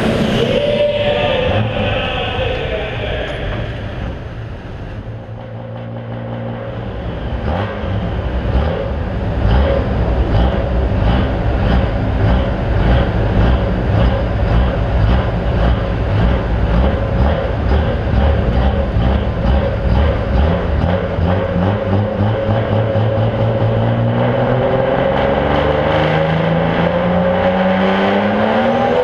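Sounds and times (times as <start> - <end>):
diesel truck engine running: 0.0 - 27.4.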